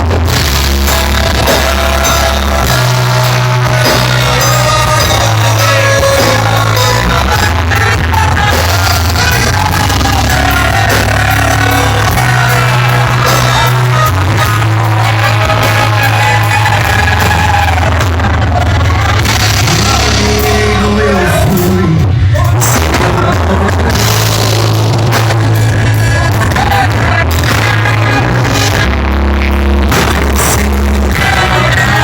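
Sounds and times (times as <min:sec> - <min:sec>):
bass holding long notes: 0:00.0 - 0:32.0
person singing: 0:00.0 - 0:32.0
steady drumbeat: 0:00.0 - 0:32.0.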